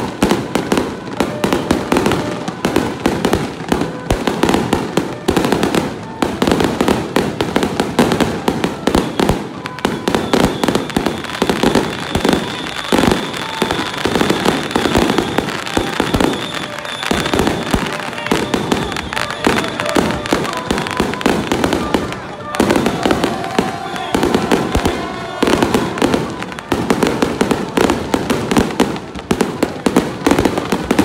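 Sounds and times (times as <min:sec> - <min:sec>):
firecrackers crackling: 0:00.0 - 0:31.0.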